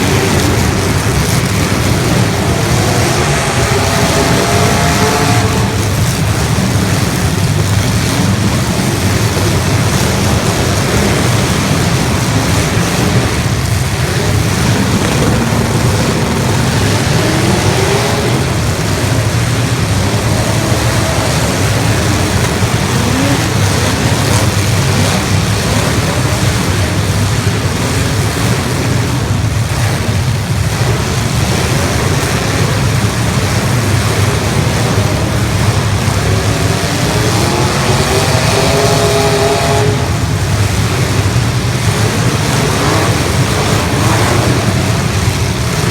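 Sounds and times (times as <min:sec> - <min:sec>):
car engines running loudly: 0:00.0 - 0:45.9
engines revving: 0:00.0 - 0:45.9.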